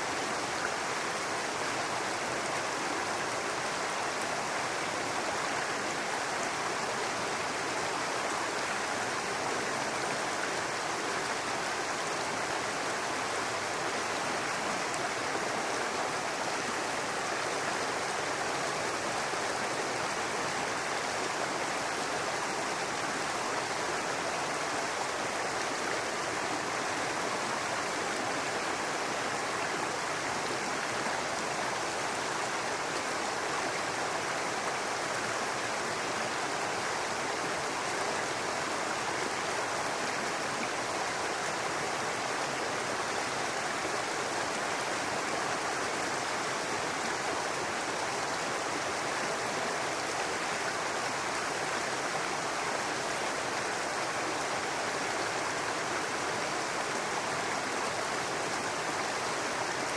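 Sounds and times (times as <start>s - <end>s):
brook water running over rocks: 0.0s - 59.9s.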